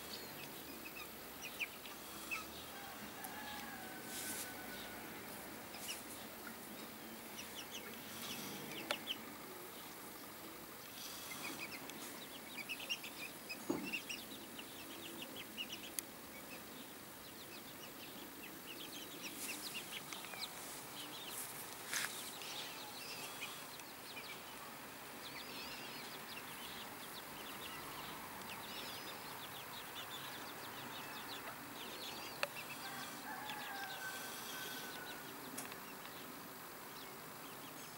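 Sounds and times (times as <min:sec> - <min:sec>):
chicks peeping: 0:00.0 - 0:36.3.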